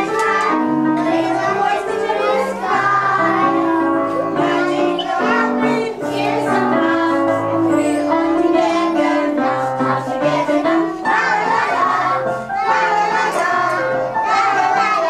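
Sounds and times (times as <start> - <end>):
children singing: 0.0 - 15.0
musical accompaniment: 0.0 - 15.0.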